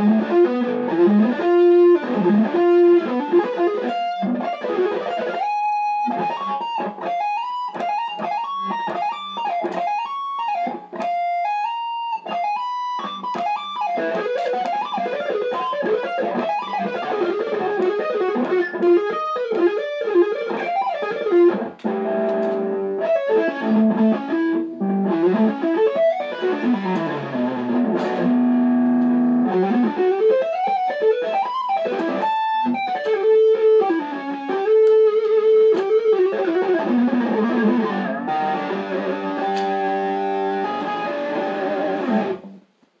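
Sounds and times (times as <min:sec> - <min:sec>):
electric guitar melody: 0:00.0 - 0:42.8.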